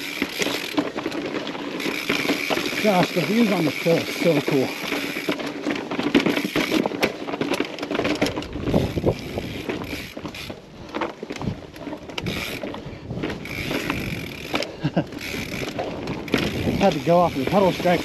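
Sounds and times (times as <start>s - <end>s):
bike rattling on rock: 0.0s - 18.0s.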